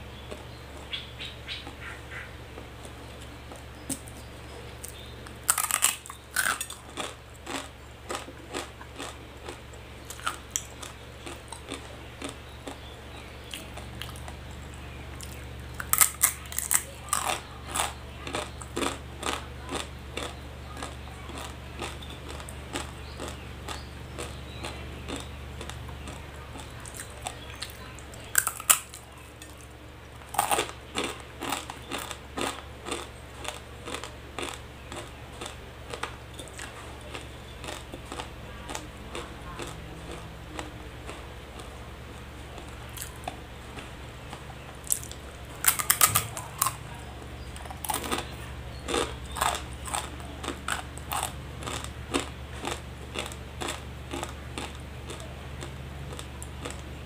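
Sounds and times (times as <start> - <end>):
steady low hum: 0.0 - 57.0
crunching dry noodles: 0.3 - 57.0.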